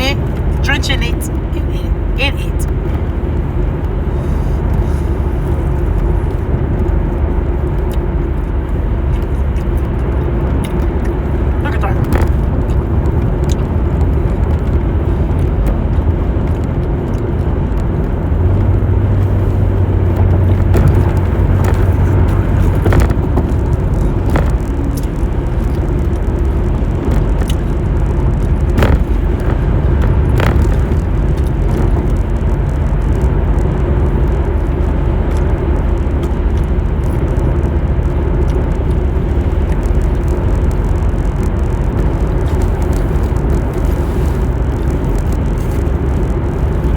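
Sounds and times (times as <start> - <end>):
car cabin road and engine noise: 0.0 - 46.9.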